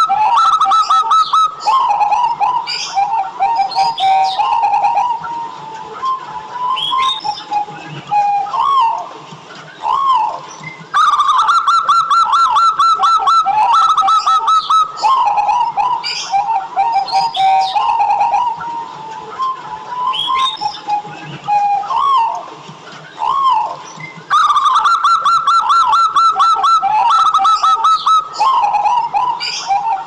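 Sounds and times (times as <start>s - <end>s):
dove cooing: 0.0s - 9.1s, 9.7s - 30.0s.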